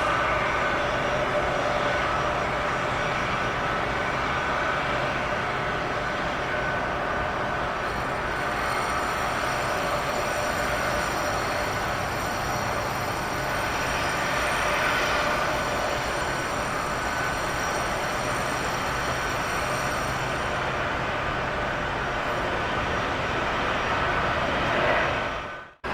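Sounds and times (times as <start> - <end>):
jet engines rushing: 0.0 - 25.9.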